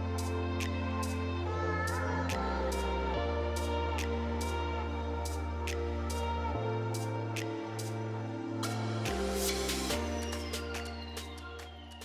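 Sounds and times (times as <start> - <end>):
sustained bass notes: 0.0 - 12.0.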